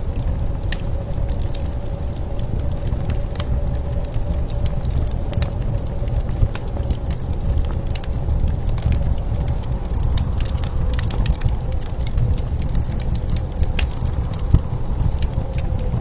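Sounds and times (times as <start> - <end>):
blizzard wind blowing: 0.0 - 16.0
wood fire crackling and popping: 0.0 - 16.0.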